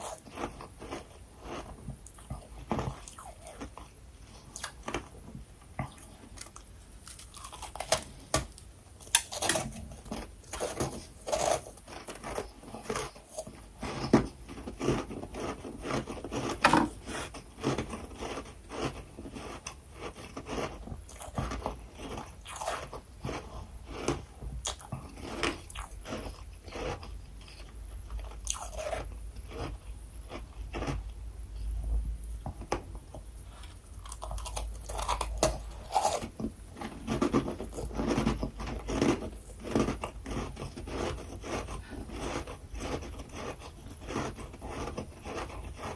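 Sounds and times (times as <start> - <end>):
crunching frost while chewing: 0.0 - 45.9.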